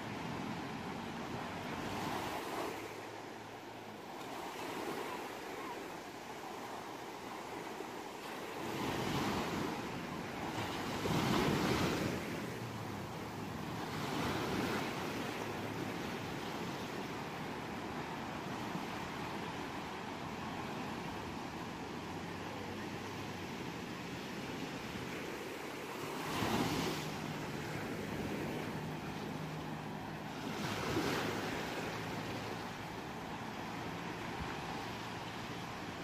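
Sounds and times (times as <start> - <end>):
ocean waves washing onto shore: 0.0 - 36.0.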